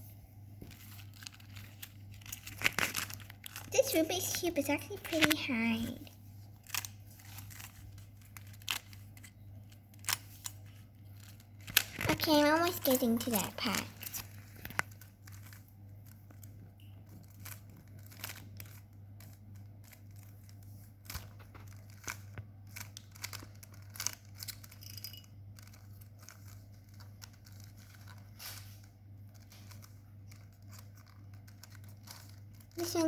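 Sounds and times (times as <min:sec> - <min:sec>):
puzzle cube clicking and turning: 0:00.8 - 0:33.0.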